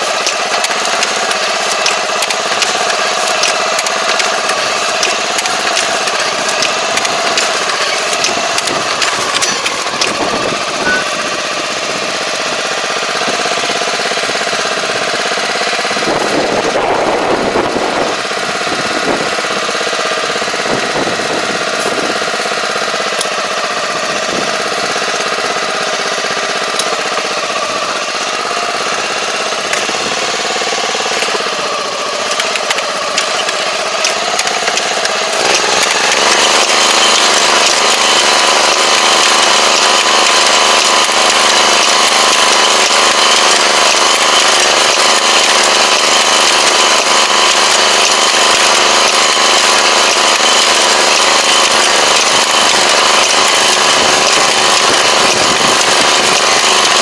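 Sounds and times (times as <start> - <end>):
machine engine running: 0.0 - 57.0.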